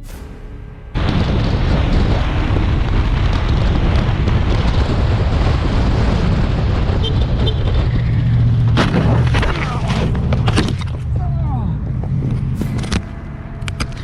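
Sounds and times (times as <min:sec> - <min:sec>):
heavy low rumble: 0:00.0 - 0:14.0
wind buffeting microphone: 0:00.9 - 0:14.0.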